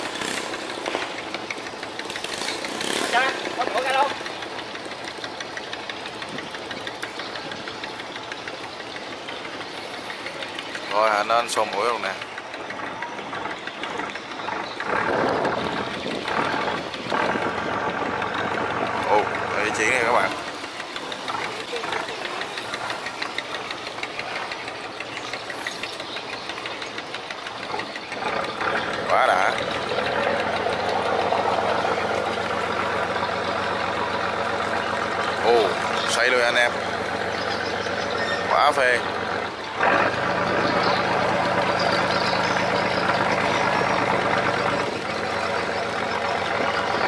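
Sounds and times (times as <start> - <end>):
boat diesel engine clattering: 0.0 - 47.0.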